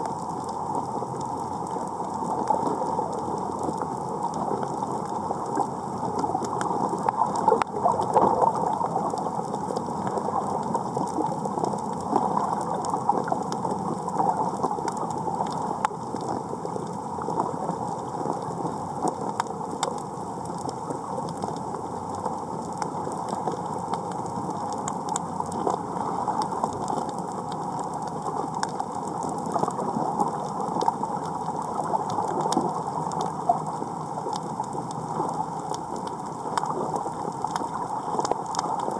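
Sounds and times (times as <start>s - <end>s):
snapping shrimp crackle underwater: 0.0s - 38.9s.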